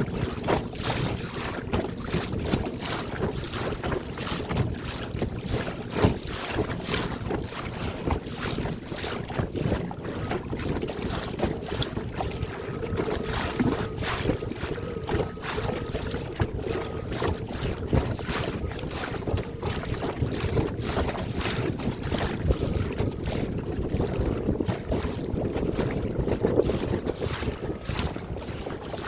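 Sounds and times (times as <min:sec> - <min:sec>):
waves lapping at boat: 0:00.0 - 0:29.0
wind buffeting microphone: 0:00.0 - 0:29.0.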